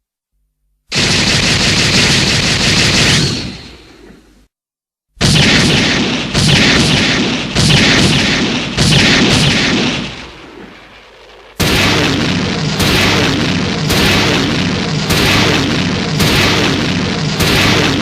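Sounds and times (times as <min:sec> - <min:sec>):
heavy booming weapon shots: 0:00.9 - 0:04.4, 0:05.2 - 0:18.0.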